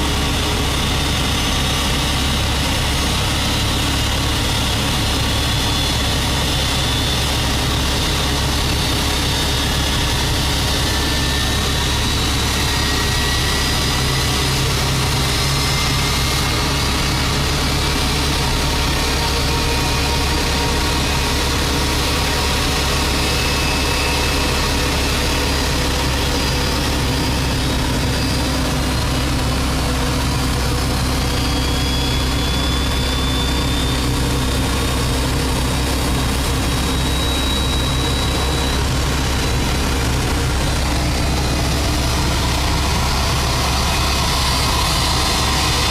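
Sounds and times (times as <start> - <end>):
aircraft engine noise: 0.0 - 45.9
jet turbine whines rising in pitch: 0.0 - 45.9.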